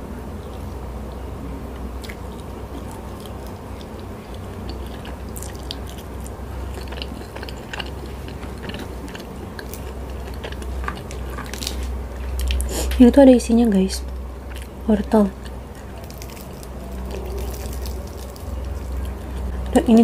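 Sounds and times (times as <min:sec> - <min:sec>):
low steady hum: 0:00.0 - 0:20.0
chewing crispy fried food: 0:01.7 - 0:20.0.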